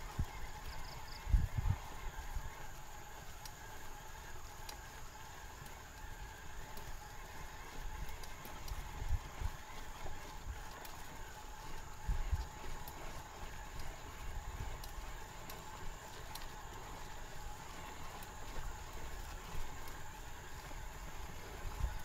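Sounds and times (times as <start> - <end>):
faint steady hum: 0.0 - 22.0
faint ticks: 0.0 - 22.0.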